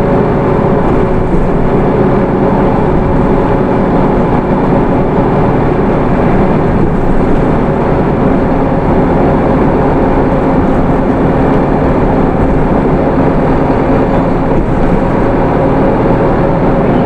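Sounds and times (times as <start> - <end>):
bus diesel engine drone: 0.0 - 17.0
road and tyre noise: 0.0 - 17.0.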